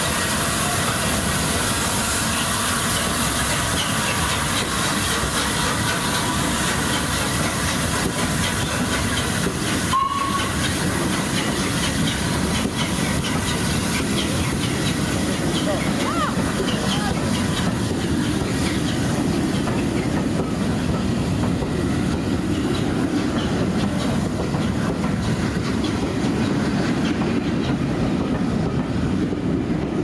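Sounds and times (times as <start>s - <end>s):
hiss of escaping steam: 0.0s - 28.0s.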